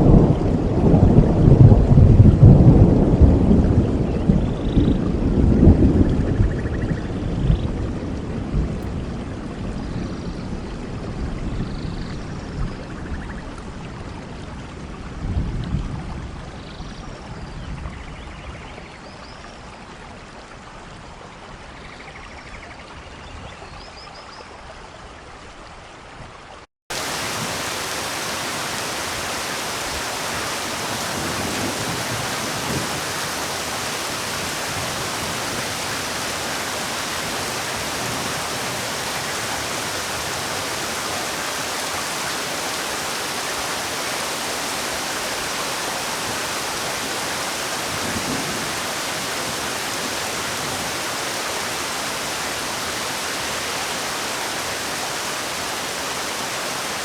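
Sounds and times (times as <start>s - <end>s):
rain falling: 0.0s - 18.0s, 26.9s - 57.0s
heavy downpour hiss: 0.0s - 22.0s, 26.9s - 57.0s.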